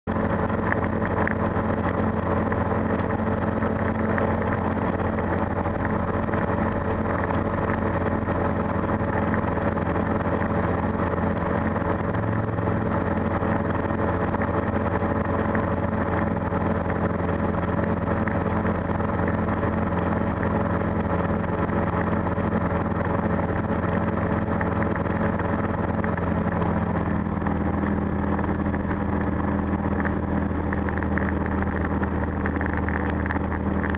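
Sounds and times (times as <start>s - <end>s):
aircraft engine and propeller: 0.0s - 33.9s.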